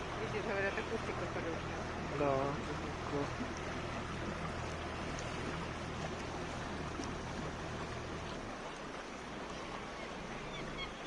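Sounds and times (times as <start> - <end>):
boat engine humming: 0.0 - 11.0
water lapping against boat: 0.0 - 11.0.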